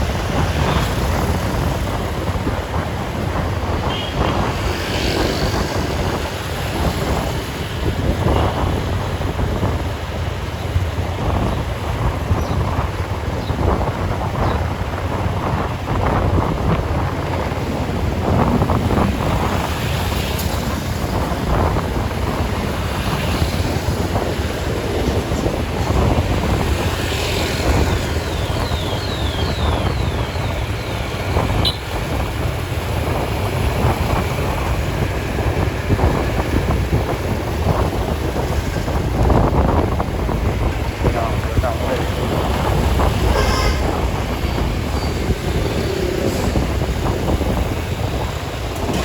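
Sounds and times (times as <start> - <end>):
low rumble of traffic: 0.0 - 49.0
wind noise on microphone: 0.0 - 49.0.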